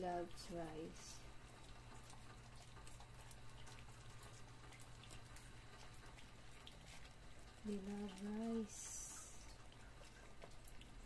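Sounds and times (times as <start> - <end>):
dogs eating from metal bowl: 0.0 - 11.0
low steady hum: 0.0 - 11.0.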